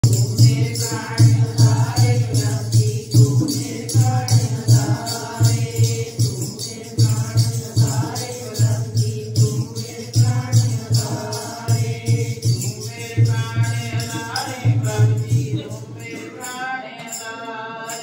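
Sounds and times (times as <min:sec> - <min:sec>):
tambourine jingling: 0:00.0 - 0:18.0
women singing together: 0:00.0 - 0:18.0.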